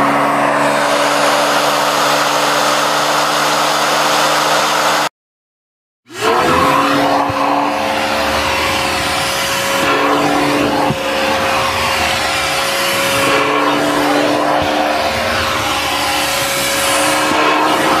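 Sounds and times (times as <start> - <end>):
vacuum cleaner whining: 0.0 - 5.1, 6.1 - 18.0.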